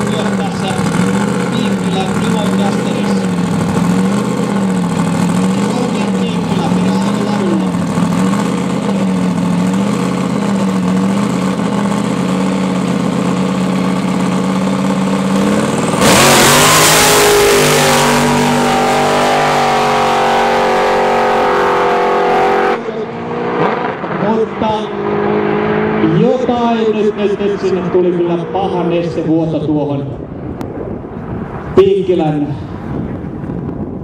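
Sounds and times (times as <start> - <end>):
drag car engines revving: 0.0 - 31.8.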